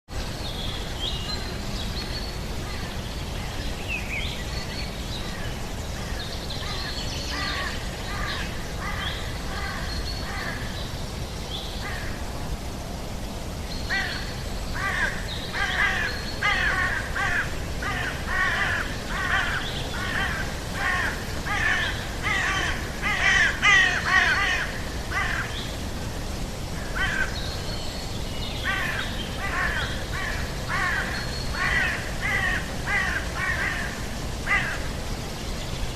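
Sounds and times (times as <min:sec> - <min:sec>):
steady low background rush: 0:00.1 - 0:35.9
birds calling: 0:00.3 - 0:12.3, 0:13.6 - 0:35.9.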